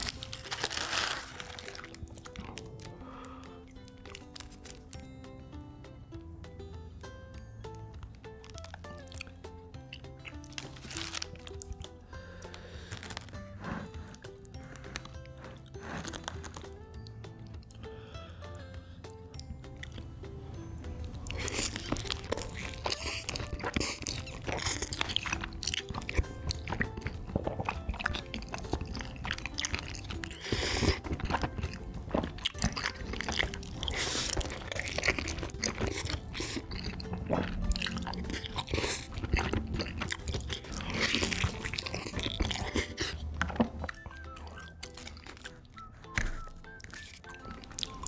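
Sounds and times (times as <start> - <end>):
crunching and chewing: 0.0 - 5.0, 8.0 - 17.9, 21.0 - 48.0.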